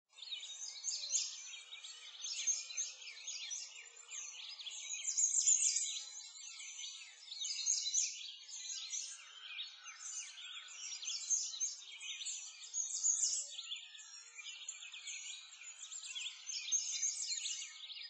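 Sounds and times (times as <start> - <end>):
small birds chirping: 0.1 - 18.0.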